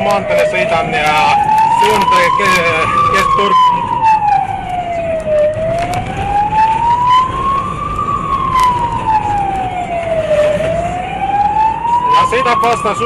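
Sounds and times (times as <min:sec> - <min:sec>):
police siren wailing: 0:00.0 - 0:13.0
vehicle rumble: 0:00.0 - 0:13.0.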